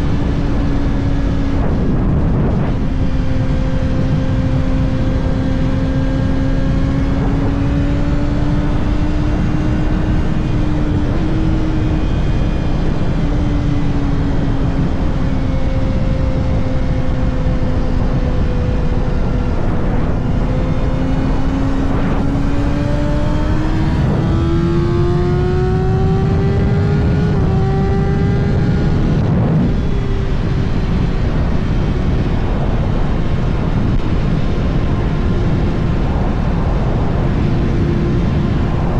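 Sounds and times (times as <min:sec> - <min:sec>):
low rushing noise: 0:00.0 - 0:38.9
motorcycle engine cruising: 0:00.0 - 0:38.9.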